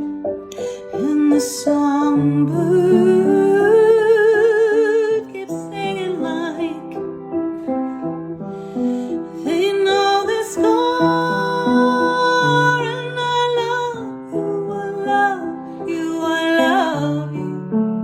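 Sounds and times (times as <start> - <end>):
piano: 0.0 - 18.0
woman singing: 0.6 - 7.1, 9.4 - 17.8.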